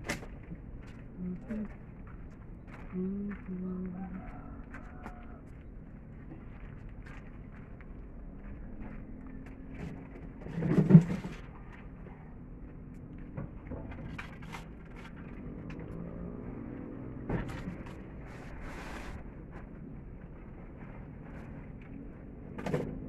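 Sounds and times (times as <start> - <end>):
footsteps: 0.1 - 23.0.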